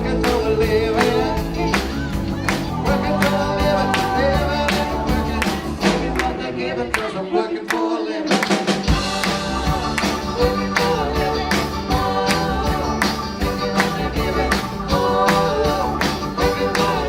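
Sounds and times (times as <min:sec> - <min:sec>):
drum kit beat: 0:00.0 - 0:06.5, 0:08.3 - 0:17.0
live rock band playing: 0:00.0 - 0:06.5, 0:08.3 - 0:17.0.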